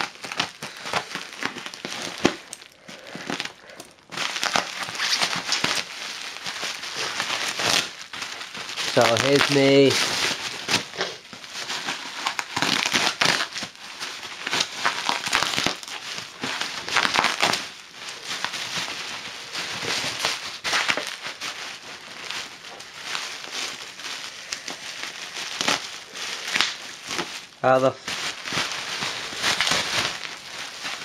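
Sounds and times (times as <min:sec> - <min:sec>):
bubble wrap crinkling: 0:00.0 - 0:31.0.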